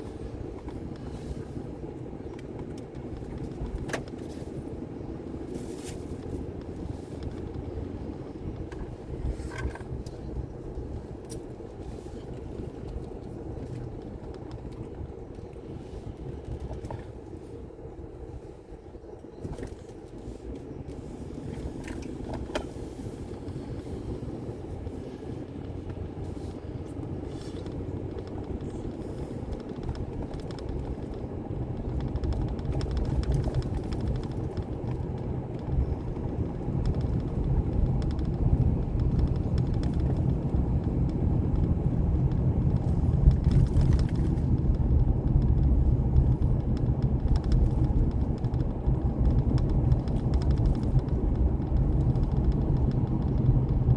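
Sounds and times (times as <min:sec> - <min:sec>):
road noise: 0:00.0 - 0:53.9
vehicle engine rumble: 0:00.0 - 0:53.9.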